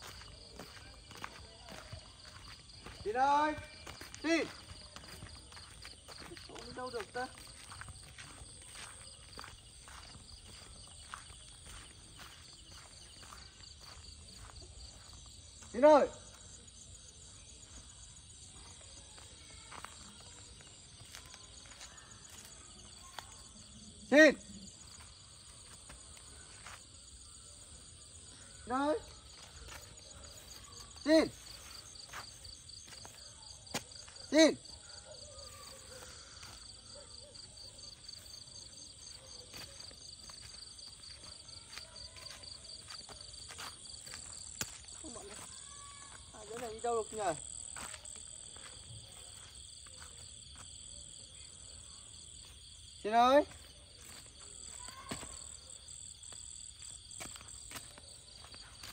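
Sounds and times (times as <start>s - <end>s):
crickets and insects chirring: 0.0s - 58.9s.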